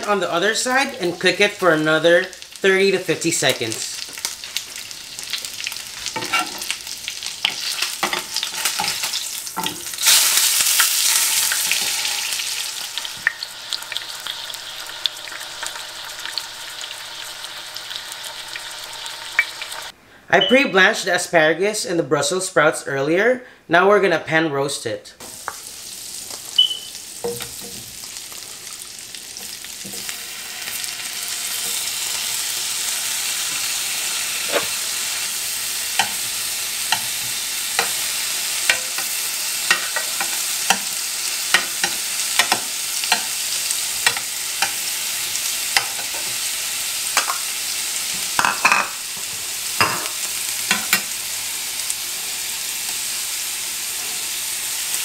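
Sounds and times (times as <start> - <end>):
sprouts sizzling in a frying pan: 3.4 - 19.9, 25.2 - 55.0.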